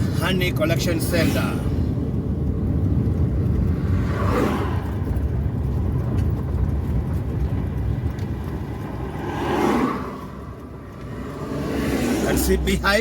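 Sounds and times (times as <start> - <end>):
road traffic rumble: 0.0 - 13.0
vehicle engine: 0.0 - 13.0
vehicle passing whoosh: 0.9 - 13.0.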